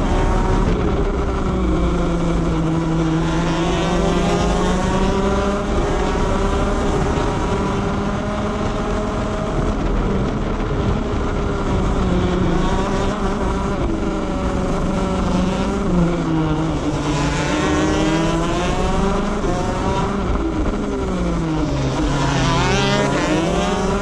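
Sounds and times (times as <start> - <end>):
kart engine at racing speed: 0.0 - 24.0
other karts running: 0.0 - 24.0.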